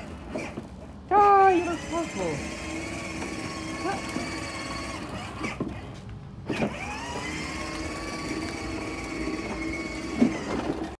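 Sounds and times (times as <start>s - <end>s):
toy car electric motor whining: 0.0s - 10.9s.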